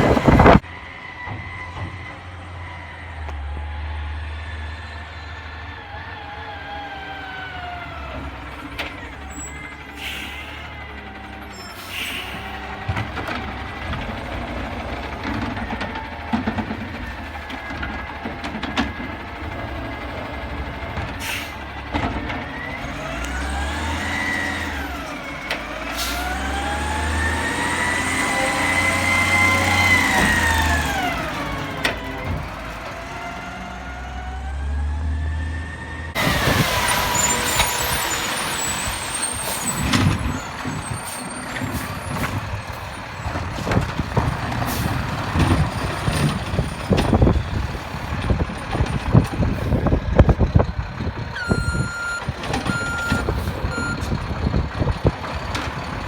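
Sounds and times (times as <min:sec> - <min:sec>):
garbage truck diesel engine revving: 0:00.0 - 0:01.1, 0:02.2 - 0:56.0.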